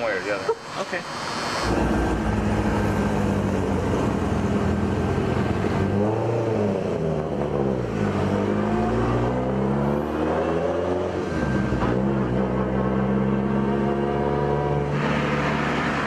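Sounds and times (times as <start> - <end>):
car engines accelerating hard: 1.4 - 16.0.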